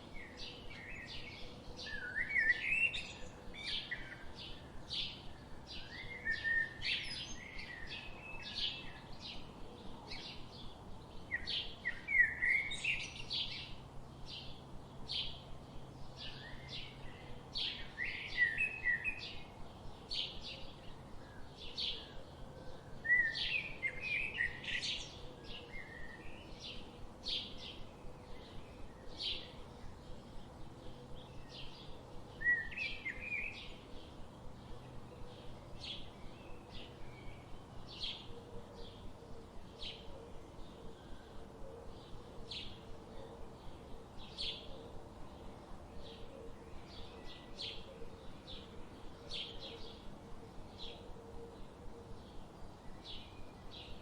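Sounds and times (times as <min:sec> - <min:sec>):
bird warbling song: 0:00.0 - 0:54.0.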